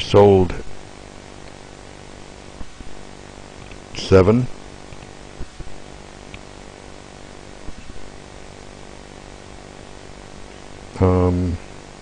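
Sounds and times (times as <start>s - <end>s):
low electrical hum: 0.0s - 12.0s
recording hiss: 0.0s - 12.0s.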